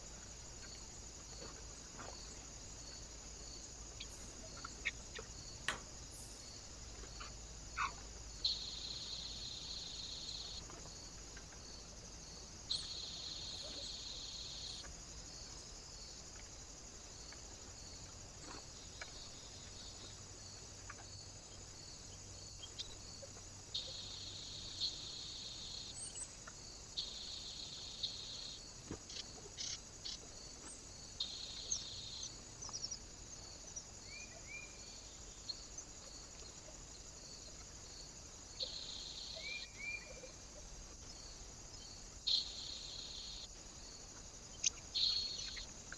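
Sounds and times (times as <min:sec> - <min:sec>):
faint steady high hiss: 0:00.0 - 0:45.9.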